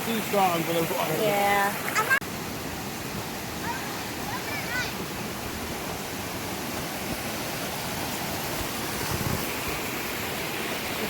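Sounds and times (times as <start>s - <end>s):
mountain creek rushing: 0.0s - 11.0s.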